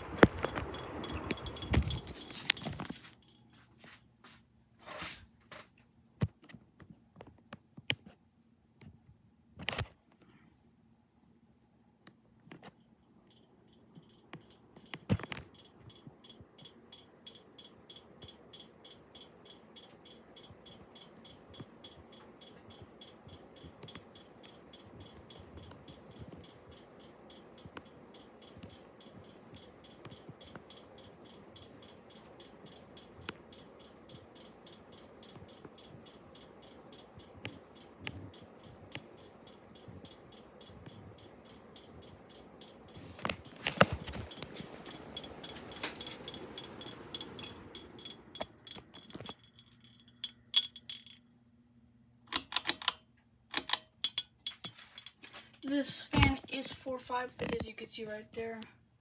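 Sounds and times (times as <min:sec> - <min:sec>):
ceiling fan ticking and rattling: 0:00.0 - 0:04.7, 0:11.6 - 0:59.0.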